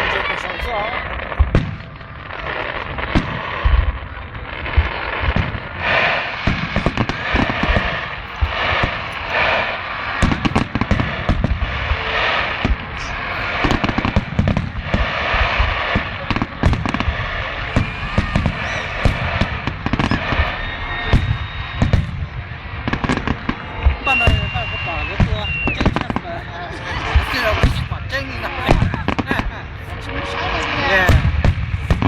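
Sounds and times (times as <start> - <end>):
booming firework bursts: 0.0 - 32.0
fireworks crackling: 0.0 - 32.0.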